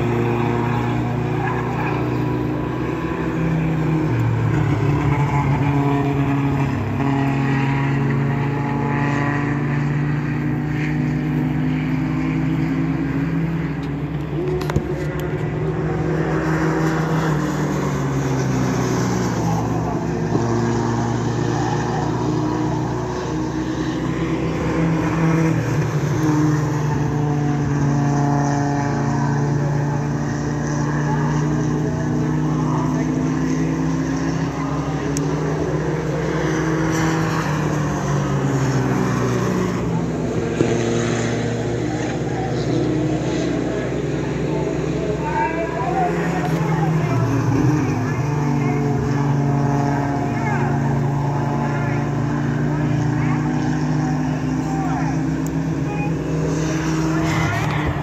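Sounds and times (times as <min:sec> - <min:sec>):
racing truck engines passing: 0:00.0 - 0:58.0.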